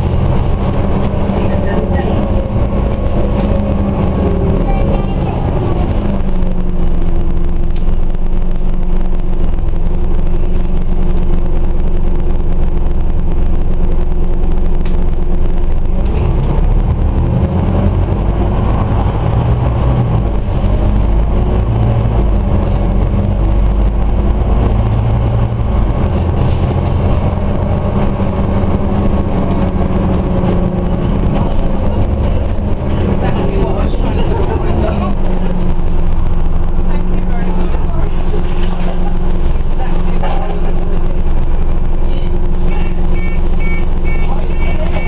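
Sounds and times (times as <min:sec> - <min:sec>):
bus diesel engine drone: 0:00.0 - 0:45.0
road rumble: 0:00.0 - 0:45.0.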